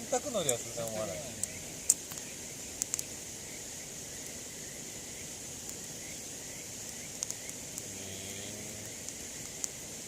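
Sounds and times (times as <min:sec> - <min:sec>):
campfire crackling: 0:00.0 - 0:10.0
high outdoor hiss: 0:00.0 - 0:10.0.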